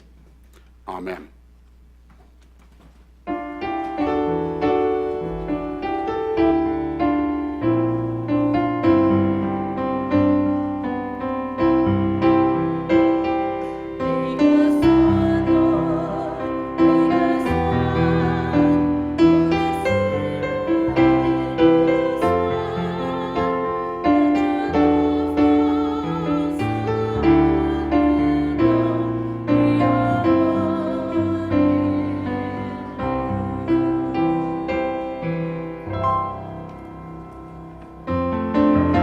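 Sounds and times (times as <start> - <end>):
piano music: 3.2 - 39.0.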